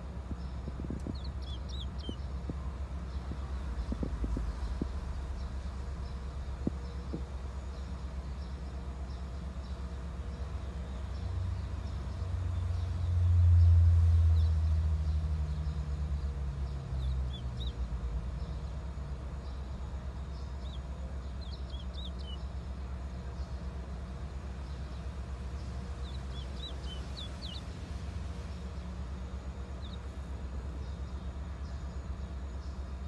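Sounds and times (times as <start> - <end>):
vehicle rumble: 0.0 - 33.0
bird chirping: 0.3 - 18.7, 19.4 - 23.6, 24.6 - 27.8, 29.6 - 30.2.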